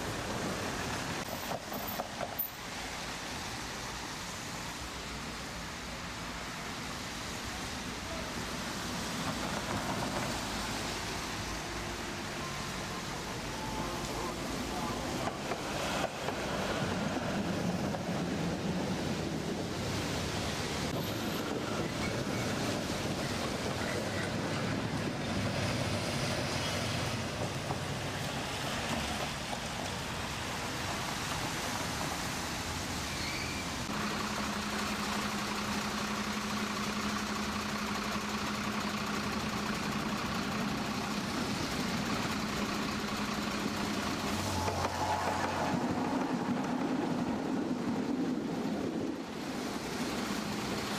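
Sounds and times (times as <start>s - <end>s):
car tyres hissing on wet road: 0.0s - 50.9s
tram rolling by: 0.0s - 50.9s.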